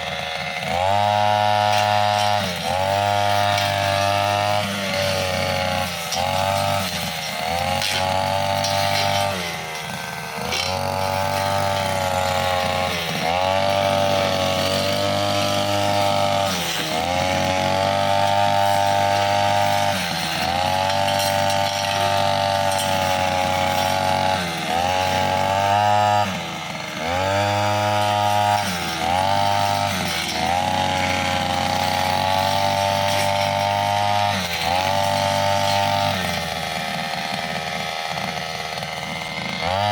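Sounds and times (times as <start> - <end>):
blade cutting grass and stems: 0.0 - 39.9
brushcutter engine at high revs: 0.0 - 39.9.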